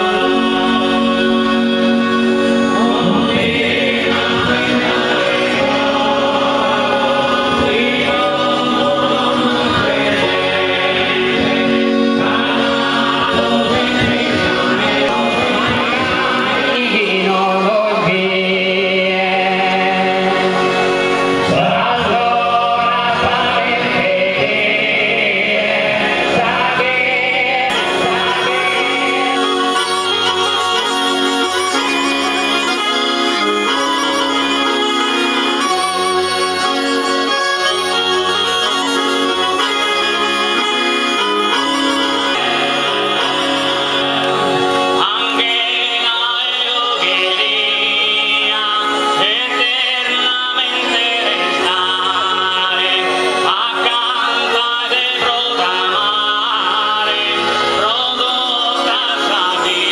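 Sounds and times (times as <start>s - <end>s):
men singing in close harmony: 0.0s - 59.9s
steady drone: 0.0s - 59.9s
triple reed pipes playing: 0.0s - 59.9s.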